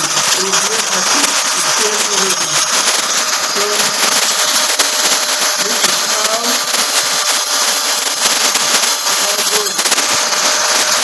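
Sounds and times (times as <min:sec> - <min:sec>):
machinery hiss: 0:00.0 - 0:11.0.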